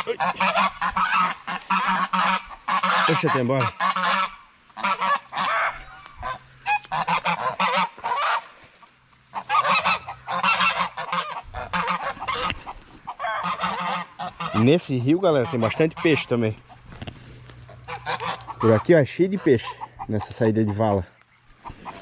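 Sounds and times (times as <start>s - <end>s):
geese honking: 0.0s - 8.6s, 9.2s - 21.0s.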